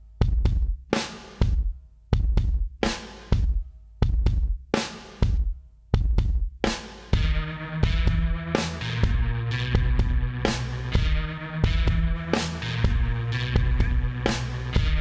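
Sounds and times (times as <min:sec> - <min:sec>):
music with drum beat: 0:00.0 - 0:15.0.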